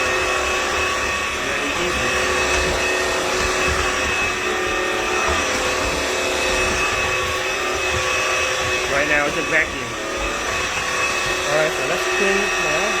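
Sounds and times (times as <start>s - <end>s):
vacuum mop motor whine: 0.0s - 13.0s.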